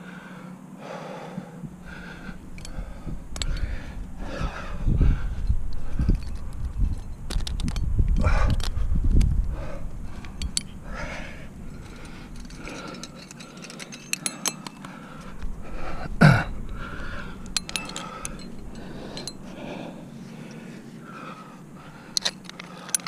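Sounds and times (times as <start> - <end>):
man breathing: 0.0 - 7.1, 8.2 - 23.0
climbing hardware clinking: 1.7 - 23.0.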